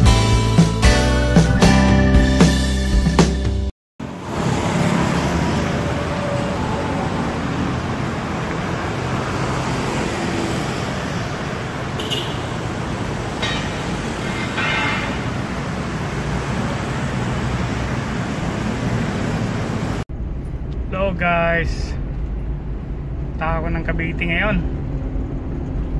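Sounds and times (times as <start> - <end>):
passing vehicles humming: 4.0 - 25.9.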